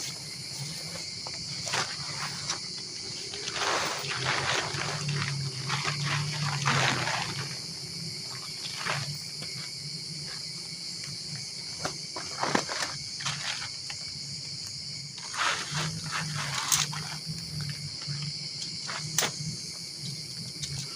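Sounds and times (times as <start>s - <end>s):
high-pitched insect chorus: 0.0s - 20.9s.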